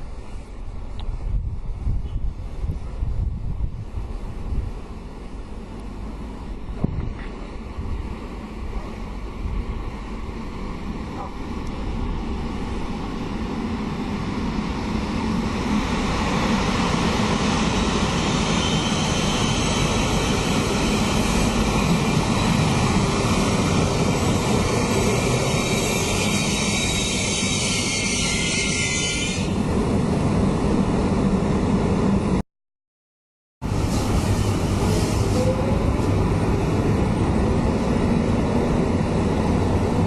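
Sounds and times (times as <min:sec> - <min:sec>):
train passing rushing rumble: 0:00.0 - 0:32.4, 0:33.6 - 0:40.0.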